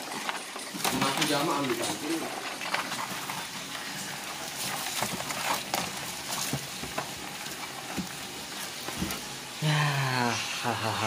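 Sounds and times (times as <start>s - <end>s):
crab shells clicking and scraping: 0.0s - 9.6s.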